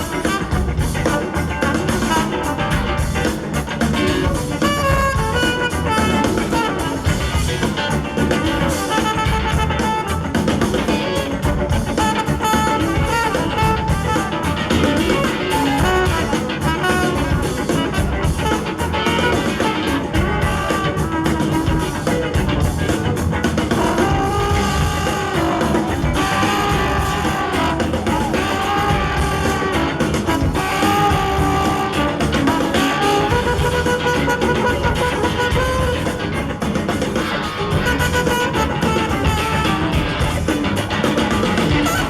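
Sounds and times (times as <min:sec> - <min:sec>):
live band playing funk-rock: 0:00.0 - 0:42.0.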